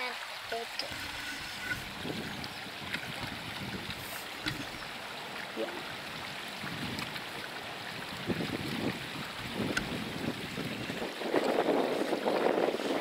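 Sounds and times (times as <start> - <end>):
stream splashing: 0.0 - 13.0.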